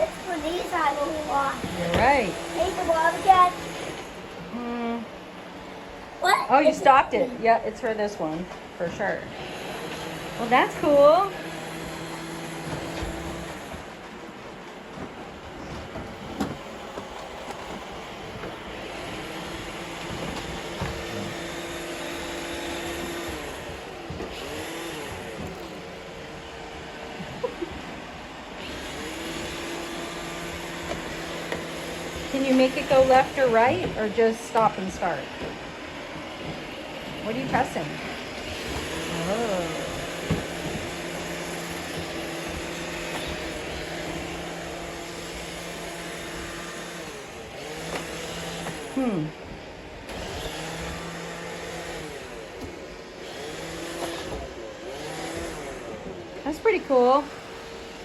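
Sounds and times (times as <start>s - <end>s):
robot vacuum cleaners whirring: 0.0s - 58.0s
motor whine rising and falling: 8.2s - 58.0s.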